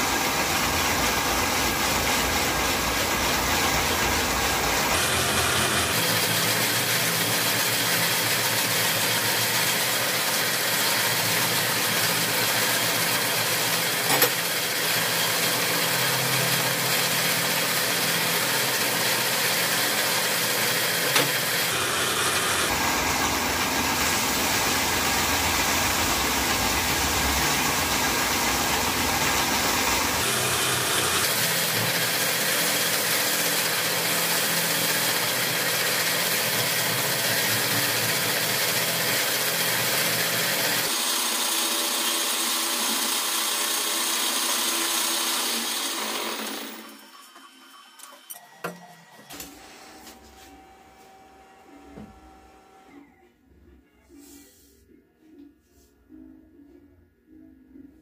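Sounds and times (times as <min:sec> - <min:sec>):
file on spinning wood: 0:00.0 - 0:47.0
lathe running: 0:00.0 - 0:52.9.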